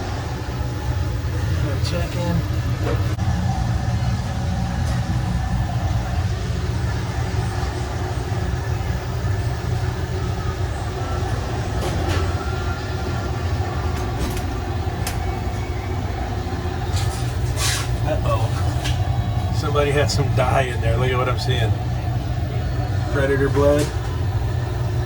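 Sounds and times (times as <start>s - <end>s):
machinery drone: 0.0s - 25.0s.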